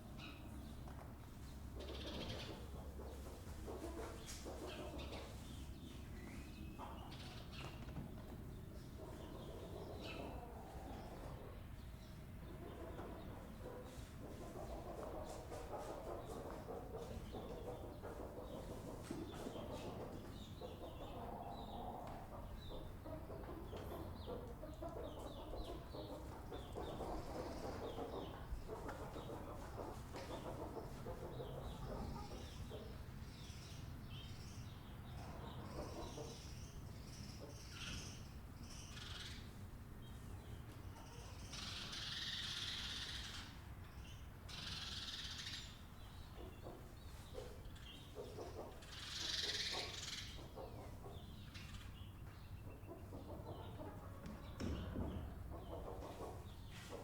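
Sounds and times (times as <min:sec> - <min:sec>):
poultry clucking: 0:00.0 - 0:57.0.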